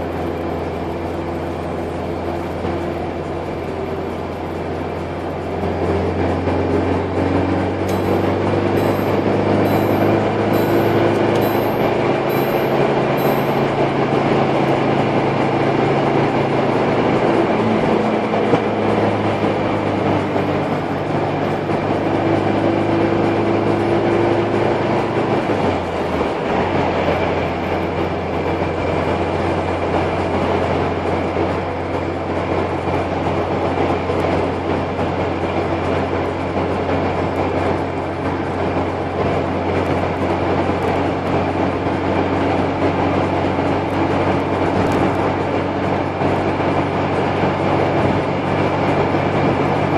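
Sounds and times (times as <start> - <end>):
car engine cruising: 0.0 - 49.9
tyre road noise: 0.0 - 49.9.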